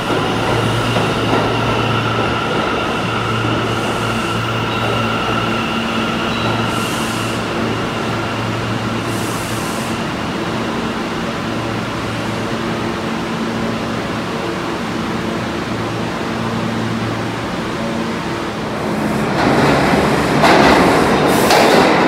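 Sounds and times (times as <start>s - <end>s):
subway train motor whine: 0.0s - 22.0s.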